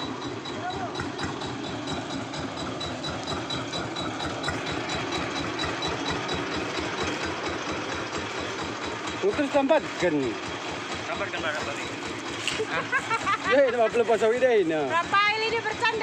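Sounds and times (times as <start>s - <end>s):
small boat engine idling: 0.0s - 16.0s.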